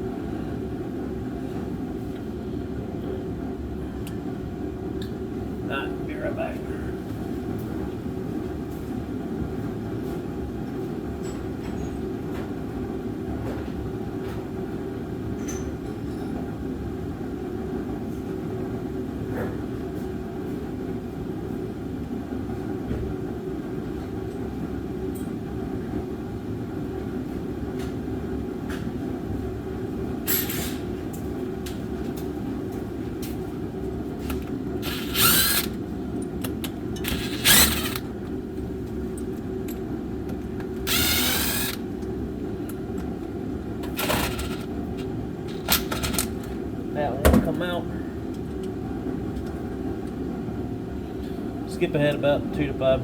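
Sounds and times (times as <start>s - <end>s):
shop heater droning: 0.0s - 53.0s.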